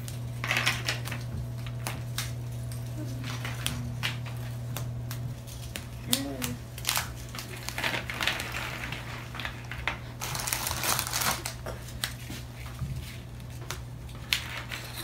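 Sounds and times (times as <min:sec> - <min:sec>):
biscuits snapping and crumbling: 0:00.0 - 0:12.2.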